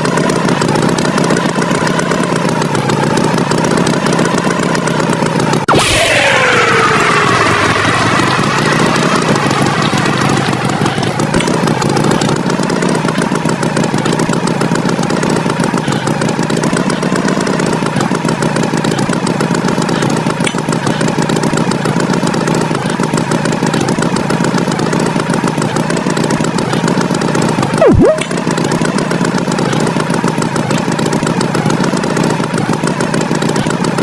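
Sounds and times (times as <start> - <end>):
tractor engine chugging: 0.0 - 34.0.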